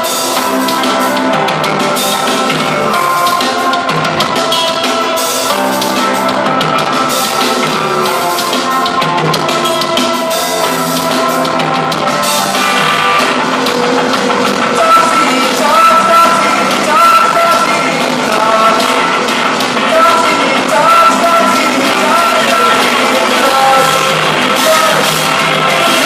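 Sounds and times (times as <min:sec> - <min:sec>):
live pop-punk band playing: 0:00.0 - 0:26.0
person singing: 0:00.0 - 0:26.0.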